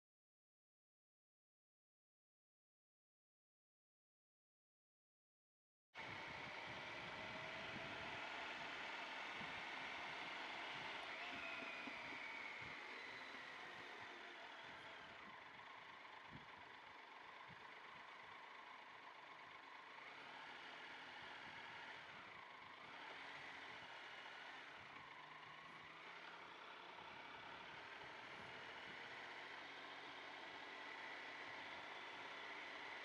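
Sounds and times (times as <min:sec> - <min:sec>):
faint motorcycle engine running: 0:06.0 - 0:33.0.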